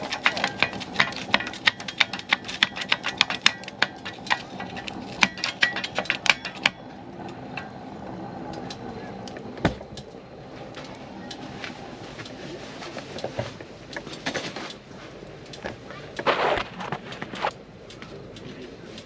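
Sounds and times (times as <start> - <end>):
firewood clacking against stove: 0.0 - 19.0.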